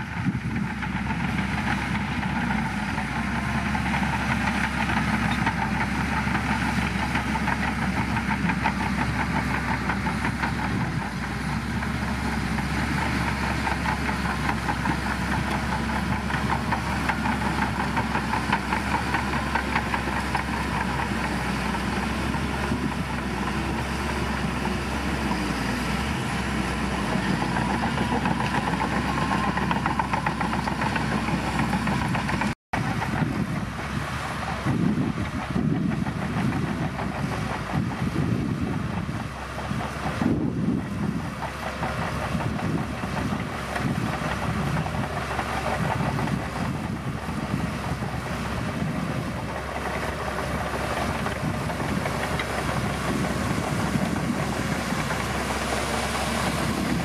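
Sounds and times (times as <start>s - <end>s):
bulldozer diesel engine clattering: 0.0s - 57.0s.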